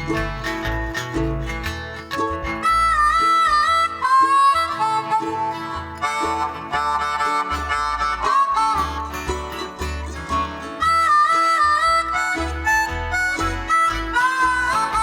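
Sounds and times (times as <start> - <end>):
harmonica solo: 0.0 - 15.0
strummed guitar: 0.0 - 15.0
walking bass: 0.0 - 15.0.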